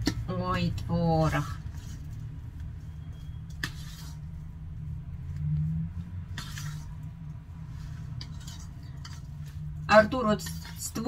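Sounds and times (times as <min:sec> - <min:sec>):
low hum: 0:00.0 - 0:10.8
utensil scraping steel bowl: 0:00.0 - 0:11.0.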